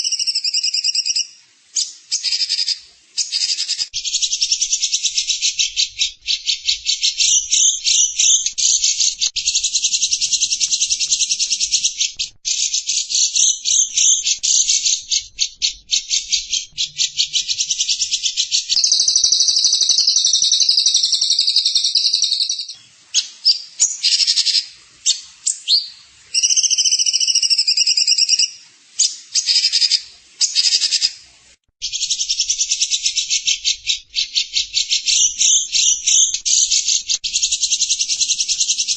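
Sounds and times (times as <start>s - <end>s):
songbird trilling: 0.0s - 31.1s, 31.8s - 38.9s.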